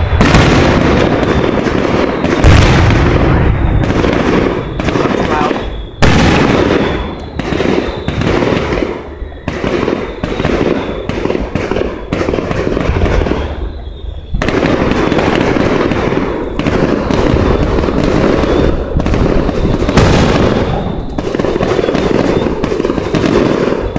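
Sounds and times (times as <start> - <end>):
echoing fireworks booms: 0.0 - 23.9
fireworks bursting with crackling: 0.0 - 23.9.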